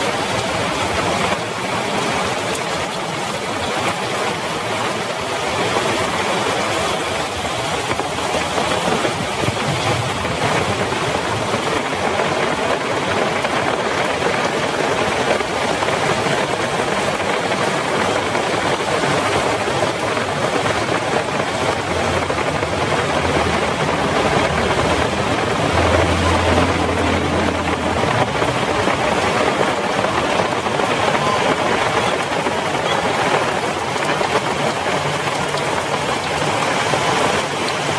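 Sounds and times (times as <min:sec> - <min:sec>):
heavy rain hissing: 0:00.0 - 0:37.9
low engine hum: 0:00.1 - 0:37.9.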